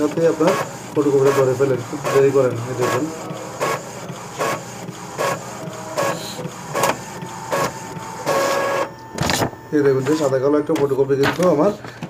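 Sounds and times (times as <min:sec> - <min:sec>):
inkjet printer printing: 0:00.0 - 0:12.0.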